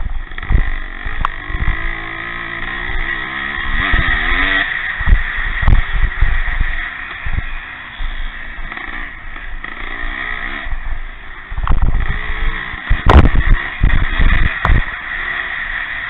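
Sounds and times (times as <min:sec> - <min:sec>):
loud low bursts: 0:00.0 - 0:16.0
motocross motorcycles revving: 0:00.0 - 0:16.0.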